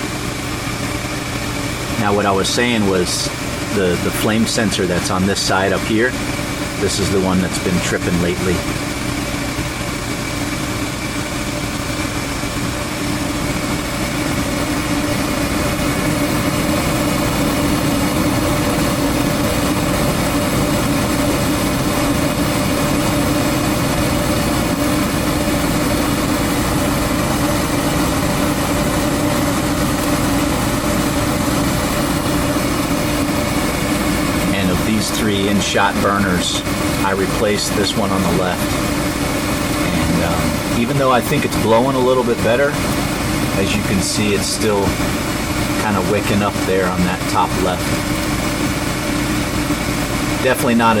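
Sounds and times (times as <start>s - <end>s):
gas furnace whooshing hum: 0.0s - 51.0s.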